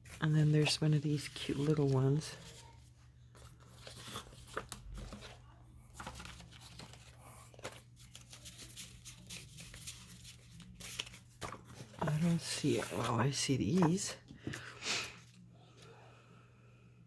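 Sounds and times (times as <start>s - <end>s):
paper rustling and crinkling: 0.0s - 15.4s.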